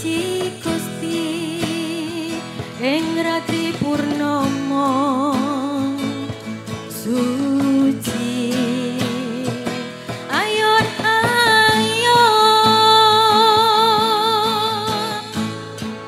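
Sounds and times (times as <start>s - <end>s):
acoustic guitar: 0.0s - 16.0s
cajon beat: 0.0s - 16.0s
woman singing: 0.0s - 16.0s.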